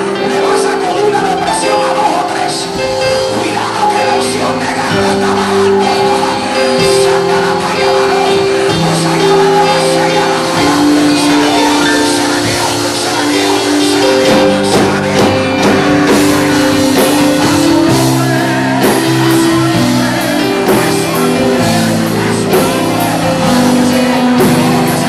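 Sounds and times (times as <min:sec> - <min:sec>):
worship music: 0:00.0 - 0:25.0.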